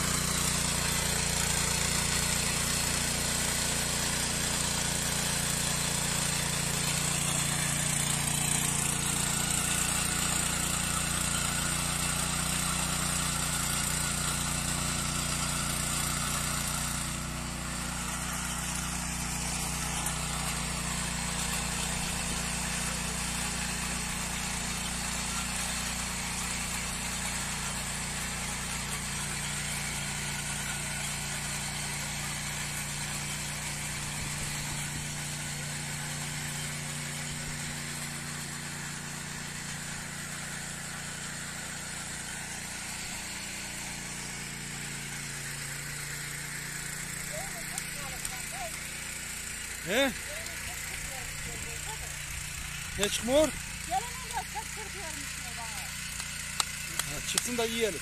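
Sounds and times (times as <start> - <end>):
tiller engine churning soil: 0.0 - 58.0.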